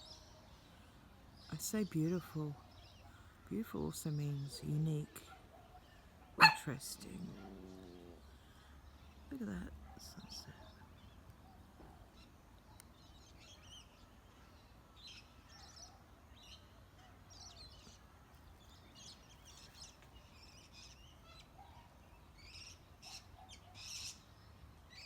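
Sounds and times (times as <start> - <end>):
faint bird chirping: 0.0 - 25.0.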